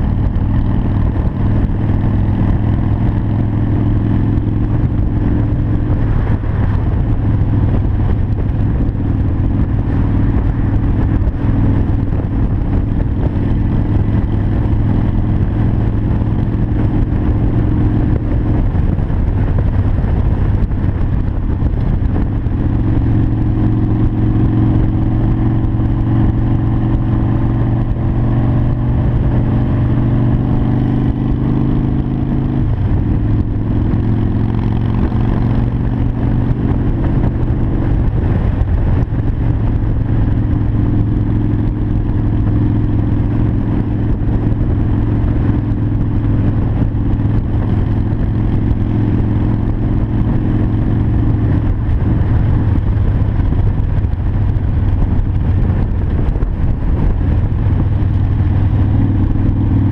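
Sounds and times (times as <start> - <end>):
motorcycle engine running: 0.0 - 59.9
wind noise on microphone: 0.0 - 59.9.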